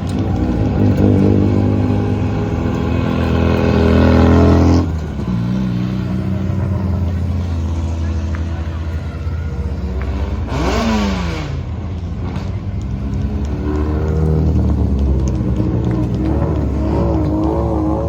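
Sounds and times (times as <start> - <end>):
engine revving: 0.0 - 18.0
race car engines rumbling: 0.0 - 18.0.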